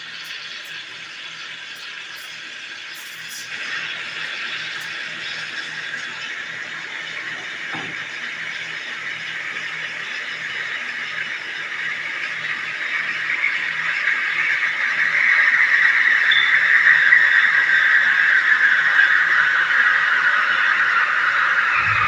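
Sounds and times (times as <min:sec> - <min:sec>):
coffee machine hissing: 0:00.0 - 0:22.0.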